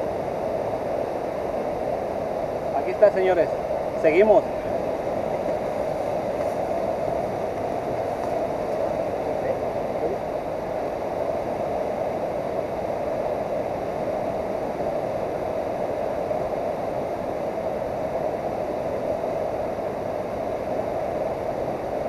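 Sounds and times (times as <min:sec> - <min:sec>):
river water rushing over dam: 0:00.0 - 0:22.0.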